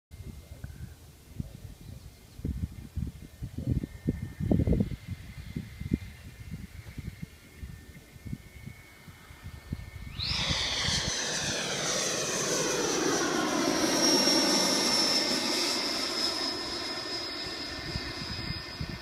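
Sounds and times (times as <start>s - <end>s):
high-pitched engine whine: 0.2s - 19.0s
aircraft rushing noise: 2.6s - 19.0s.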